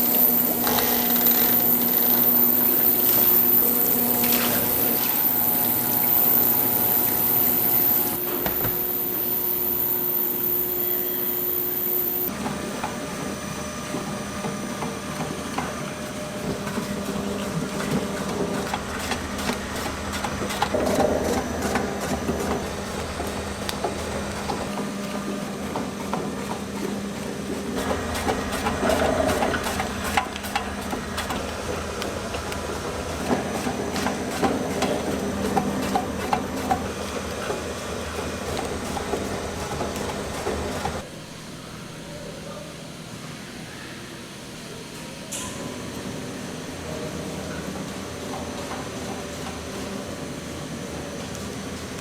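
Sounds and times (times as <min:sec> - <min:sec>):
factory machinery humming: 0:00.0 - 0:52.0.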